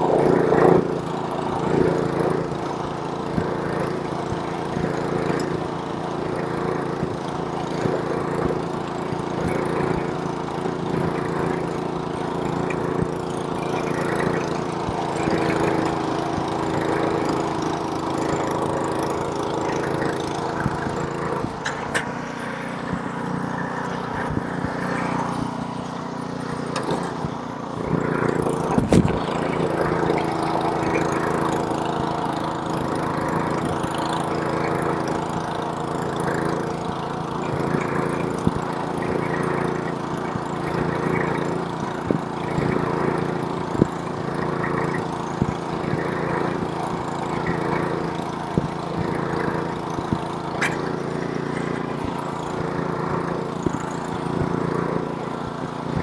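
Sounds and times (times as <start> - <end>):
snowblower engine running: 0.0 - 56.0.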